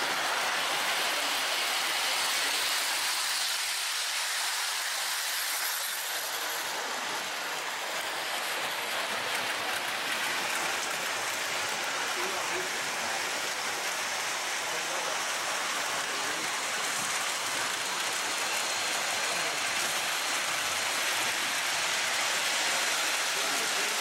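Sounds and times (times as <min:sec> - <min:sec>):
model train whirring on track: 0:00.0 - 0:24.0.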